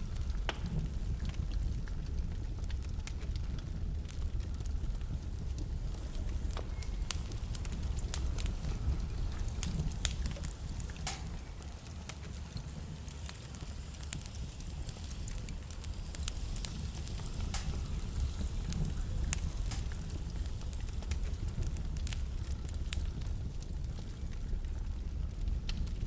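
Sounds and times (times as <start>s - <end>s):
logs crackling and popping: 0.0s - 26.0s
low rumble of flame: 0.0s - 26.0s.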